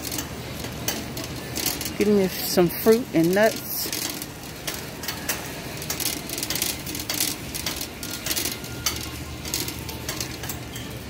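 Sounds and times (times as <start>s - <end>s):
shopping cart rattling on concrete: 0.0s - 11.0s.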